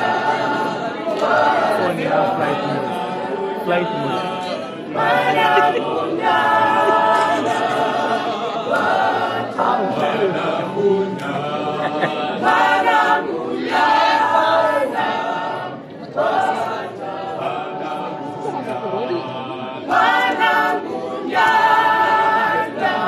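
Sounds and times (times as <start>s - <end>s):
choir singing unaccompanied: 0.0s - 23.0s.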